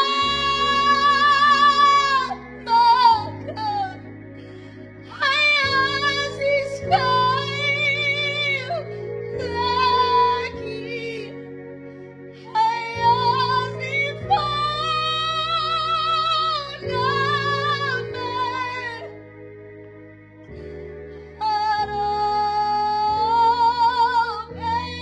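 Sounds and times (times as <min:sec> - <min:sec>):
woman singing: 0:00.0 - 0:04.0, 0:05.1 - 0:11.4, 0:12.5 - 0:19.2, 0:21.4 - 0:25.0
sustained chords: 0:00.0 - 0:25.0.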